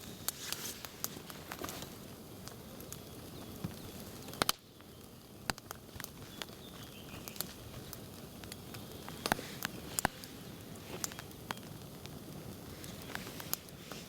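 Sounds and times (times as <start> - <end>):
campfire crackling: 0.0 - 14.0
low hiss: 0.0 - 14.0.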